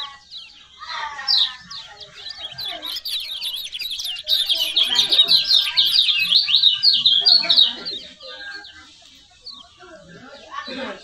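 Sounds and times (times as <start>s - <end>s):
birds twittering high chirps: 0.0s - 11.0s.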